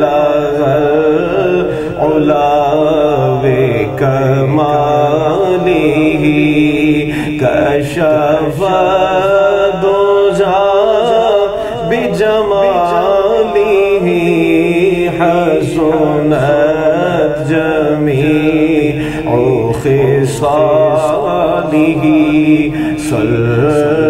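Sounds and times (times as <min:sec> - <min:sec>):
man singing devotional poem: 0:00.0 - 0:24.0.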